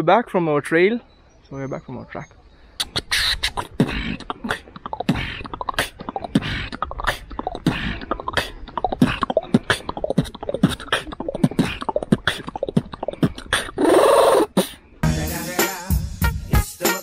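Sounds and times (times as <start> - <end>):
man beatboxing: 2.8 - 17.0.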